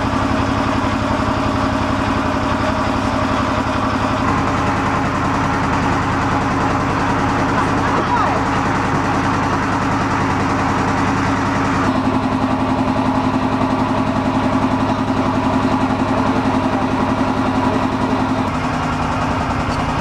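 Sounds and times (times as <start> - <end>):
boat engine throbbing: 0.0 - 20.0.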